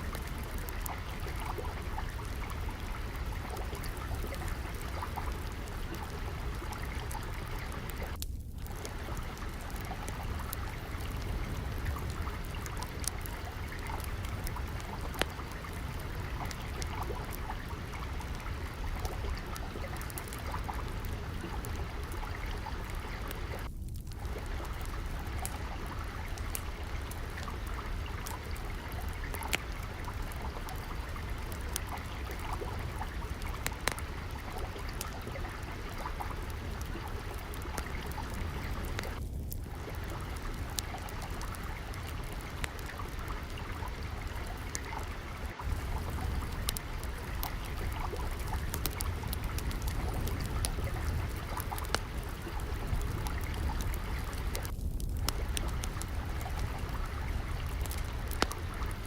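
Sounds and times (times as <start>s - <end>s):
flowing water: 0.0s - 59.0s
wood fire crackling: 0.0s - 59.0s.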